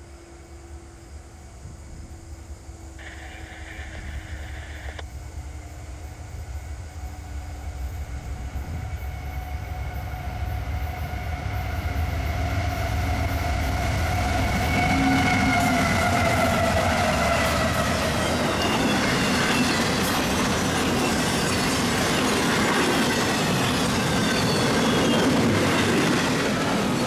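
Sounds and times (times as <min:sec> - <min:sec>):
steady whine: 0:00.0 - 0:25.8
diesel locomotive engine rumble: 0:00.0 - 0:27.0.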